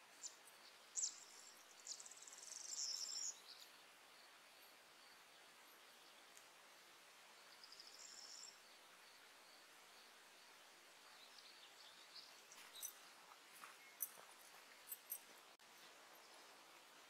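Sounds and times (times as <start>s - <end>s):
faint outdoor ambience hiss: 0.0s - 17.0s.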